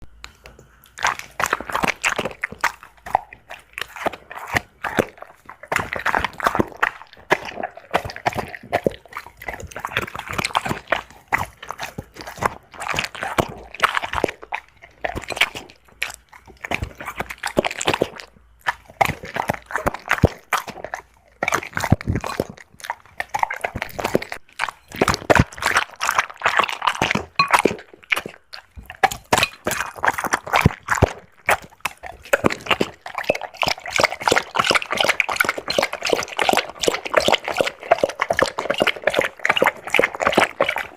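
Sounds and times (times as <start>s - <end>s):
dog chewing and crunching: 0.0s - 40.9s.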